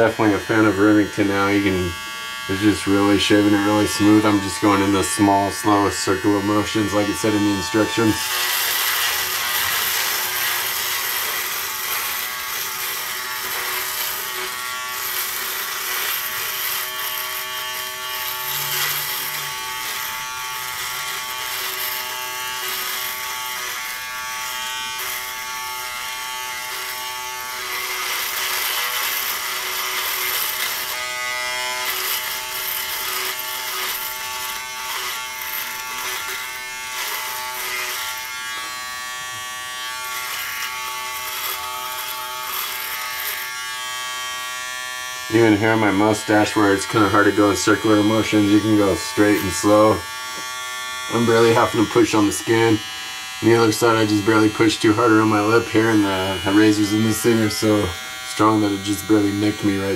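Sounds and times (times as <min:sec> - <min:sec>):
electric shaver buzzing: 0:00.0 - 0:59.9.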